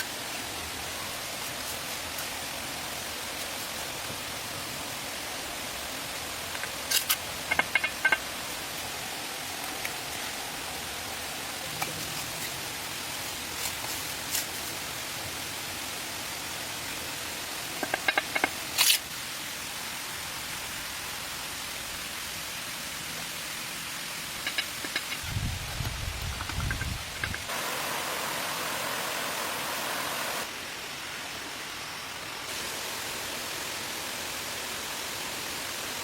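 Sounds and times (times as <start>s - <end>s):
steady rushing hiss: 0.0s - 36.0s.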